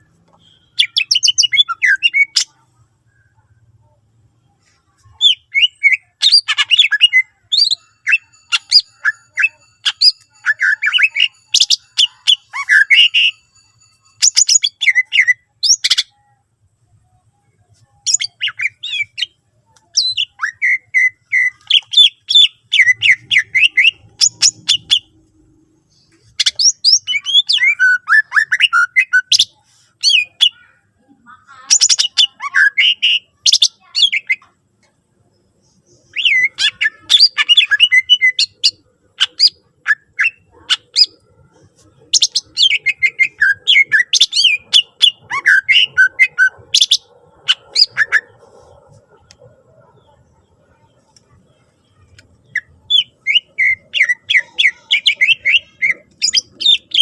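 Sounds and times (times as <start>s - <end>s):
bird singing chirps and trills: 0.0s - 3.7s, 4.3s - 57.0s.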